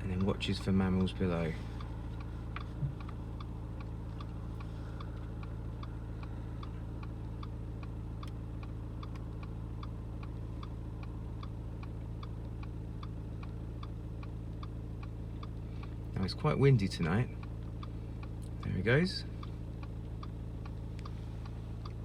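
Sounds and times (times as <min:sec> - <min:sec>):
car engine idling: 0:00.0 - 0:22.0
indicator relay ticking: 0:00.0 - 0:22.0.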